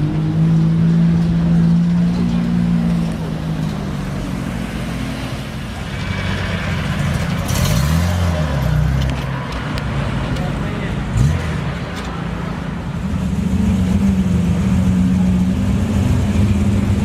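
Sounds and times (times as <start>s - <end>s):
car engine and exhaust: 0.0s - 17.0s.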